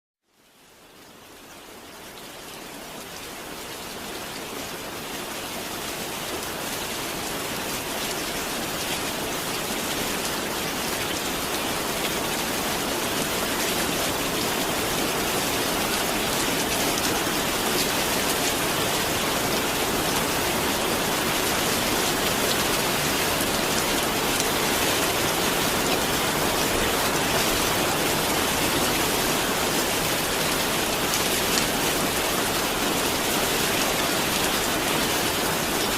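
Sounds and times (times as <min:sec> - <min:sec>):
steady rain: 0:00.2 - 0:35.9.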